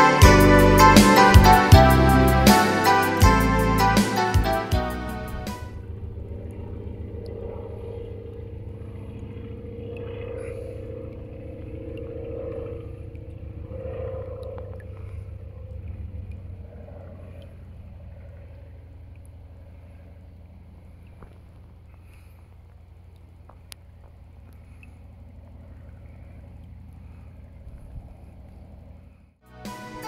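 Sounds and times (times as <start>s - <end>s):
distant engine droning: 0.0s - 30.0s.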